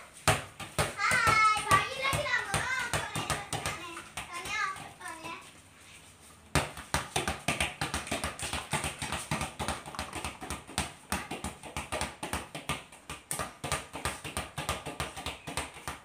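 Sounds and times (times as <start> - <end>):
feet and football tapping on concrete: 0.0 - 5.6, 6.3 - 16.0.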